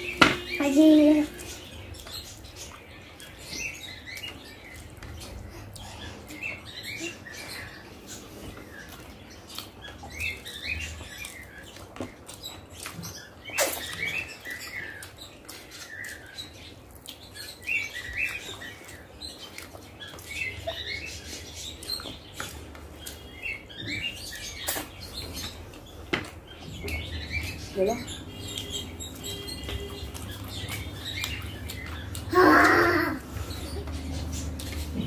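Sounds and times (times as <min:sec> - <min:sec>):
person chewing food: 0:01.3 - 0:27.6, 0:28.2 - 0:35.0.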